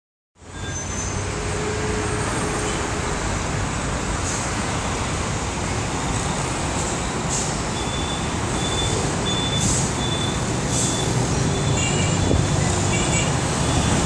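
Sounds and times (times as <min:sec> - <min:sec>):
city road traffic: 0:00.4 - 0:14.0.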